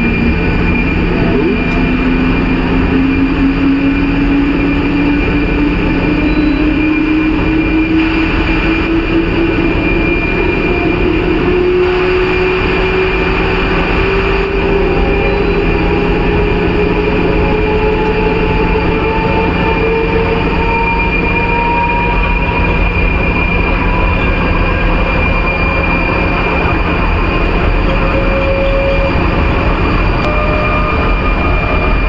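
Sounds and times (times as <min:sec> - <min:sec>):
traction motor whine: 0:00.0 - 0:32.0
wheels rumbling on rail: 0:00.0 - 0:32.0.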